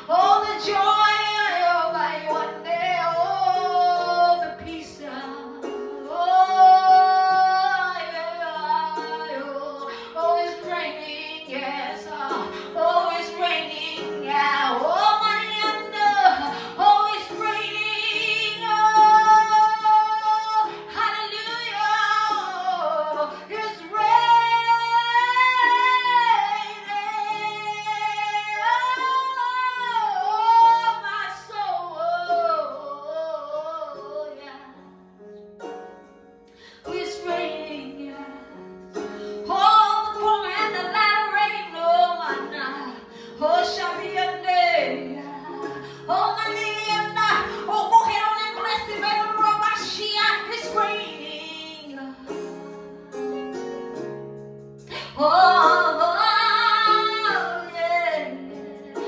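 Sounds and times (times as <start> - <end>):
woman singing gospel song: 0.0 - 34.6, 36.9 - 38.4, 39.4 - 52.4, 54.9 - 59.0
instrumental accompaniment: 0.0 - 59.0.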